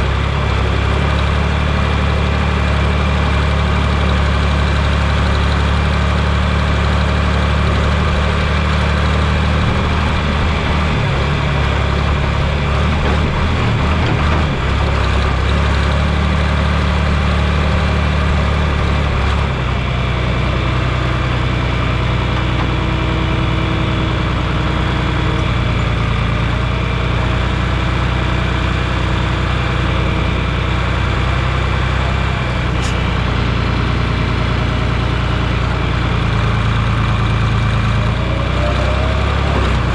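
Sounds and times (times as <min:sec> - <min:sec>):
heavy farm machine engine: 0:00.0 - 0:39.9.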